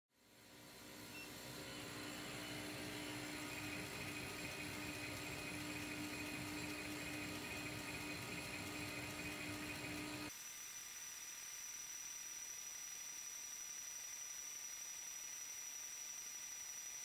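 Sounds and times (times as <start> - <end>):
laser cutter whirring: 0.2 - 17.0.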